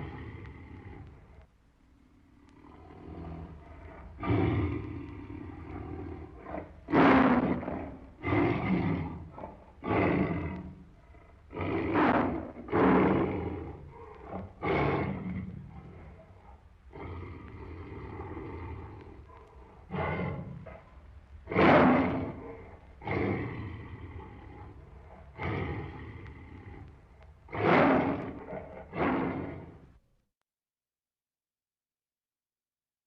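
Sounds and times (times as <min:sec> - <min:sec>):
tiger growling: 0:00.0 - 0:29.9
tiger roaring: 0:00.0 - 0:29.9.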